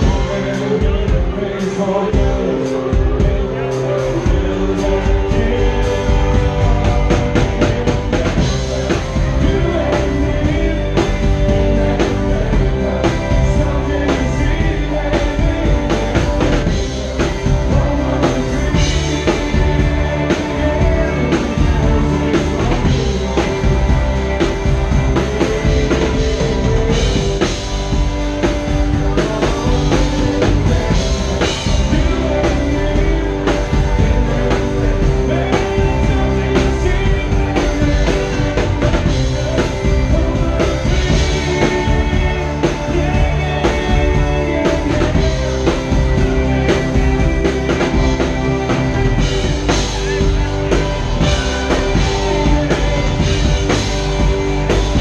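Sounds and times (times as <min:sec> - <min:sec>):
drum kit: 0:00.0 - 0:55.0
electric guitar: 0:00.0 - 0:55.0
keyboard: 0:00.0 - 0:55.0.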